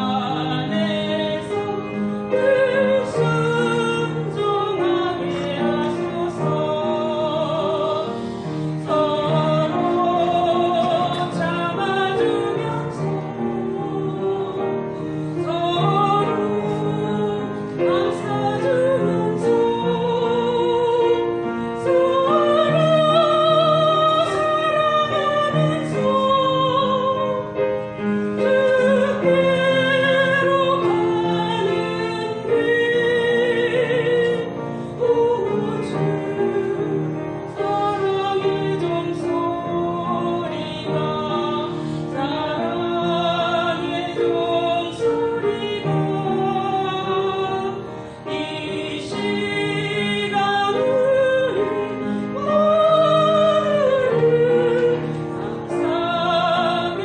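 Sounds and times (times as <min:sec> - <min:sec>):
woman singing a hymn: 0:00.0 - 0:57.0.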